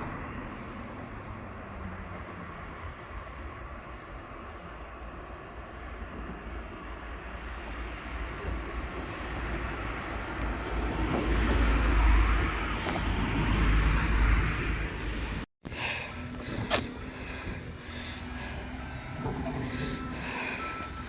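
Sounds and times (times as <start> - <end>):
vehicle rumble: 0.0 - 21.0.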